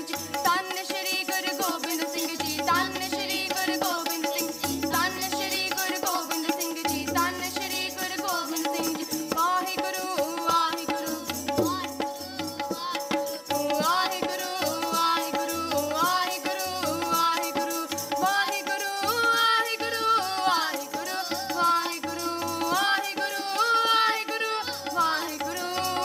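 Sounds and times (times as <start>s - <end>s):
harmonium chords: 0.0s - 22.7s
tabla strokes: 0.0s - 26.0s.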